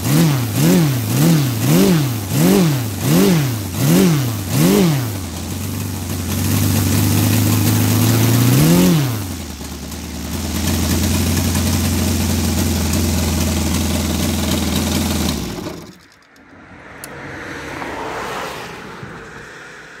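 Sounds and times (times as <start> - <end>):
model aircraft engine idling: 0.0 - 16.3.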